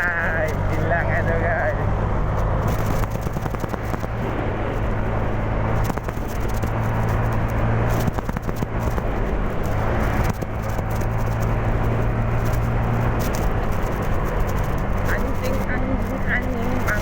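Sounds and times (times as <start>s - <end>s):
wind rushing over microphone: 0.0s - 17.0s
scooter engine running: 2.6s - 5.1s, 5.7s - 17.0s.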